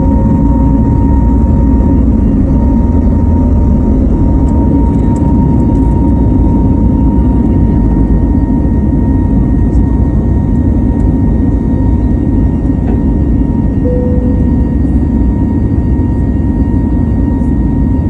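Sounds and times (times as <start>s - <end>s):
high engine tone: 0.0s - 17.1s
jet engines rumbling: 0.0s - 18.0s.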